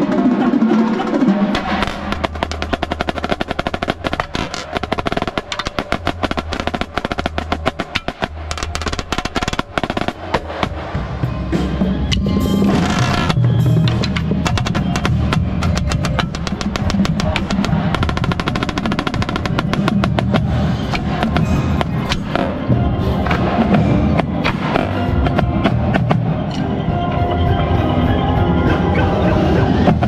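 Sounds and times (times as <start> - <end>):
snare drum rolls: 0.0 - 26.6
drumline playing: 0.0 - 30.0.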